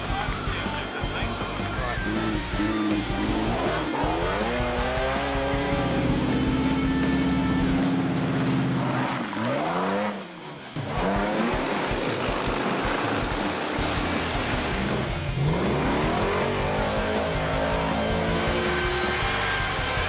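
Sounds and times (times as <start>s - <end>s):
off-road engines revving: 0.0s - 20.0s.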